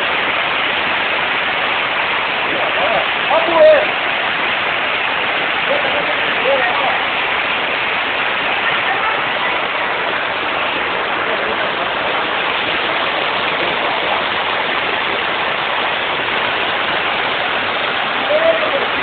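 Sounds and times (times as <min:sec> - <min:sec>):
water rushing down a street: 0:00.0 - 0:19.0.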